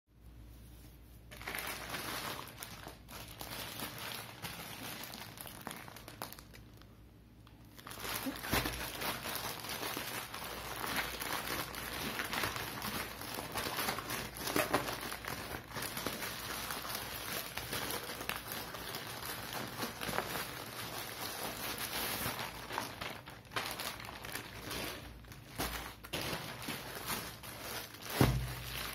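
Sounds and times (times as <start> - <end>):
plastic bags crinkling: 1.3 - 28.9.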